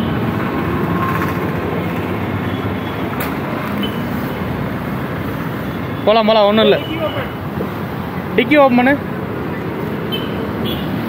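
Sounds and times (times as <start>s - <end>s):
motorbike engines passing: 0.0s - 11.0s.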